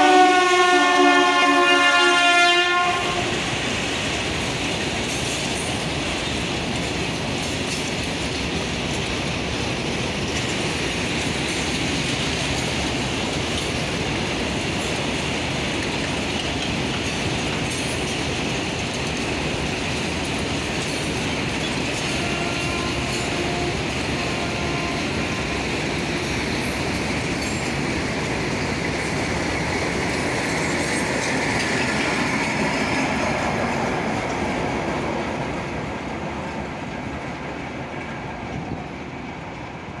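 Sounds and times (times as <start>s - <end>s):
train wheels rolling on track: 0.0s - 40.0s.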